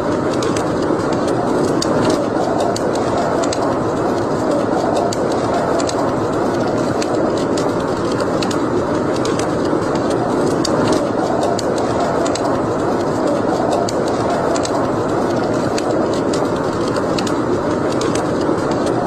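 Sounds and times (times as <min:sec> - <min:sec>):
wood fire crackling in fireplace: 0:00.0 - 0:19.0.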